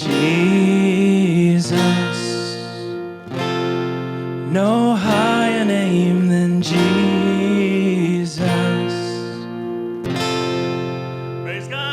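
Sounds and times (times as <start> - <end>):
guitar strumming: 0.0 - 11.9
worship band music: 0.0 - 11.9.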